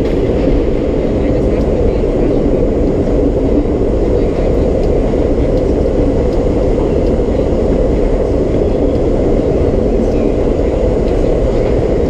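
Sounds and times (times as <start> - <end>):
subway car rumble: 0.0 - 12.0.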